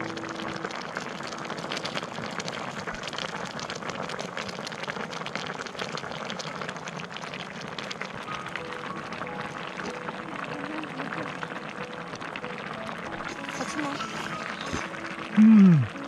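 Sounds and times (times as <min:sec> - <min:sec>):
soup bubbling in a pot: 0:00.0 - 0:16.0.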